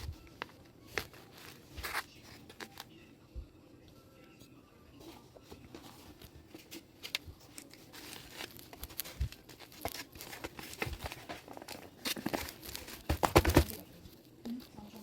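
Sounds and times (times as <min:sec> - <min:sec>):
crinkling handling noise: 0:00.0 - 0:03.0, 0:05.0 - 0:14.8.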